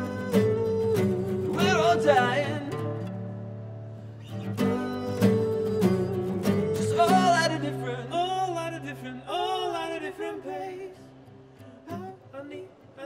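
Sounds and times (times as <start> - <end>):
man singing: 0.0 - 3.0, 4.6 - 11.0, 11.9 - 13.0
acoustic guitars strumming: 0.0 - 13.0.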